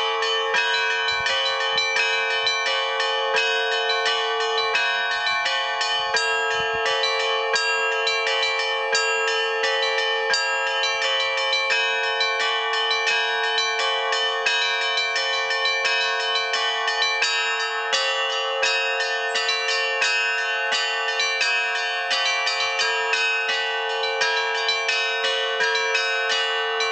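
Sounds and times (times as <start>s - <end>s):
low bell humming: 0.0s - 26.9s
small church bells ringing fast: 0.0s - 26.9s.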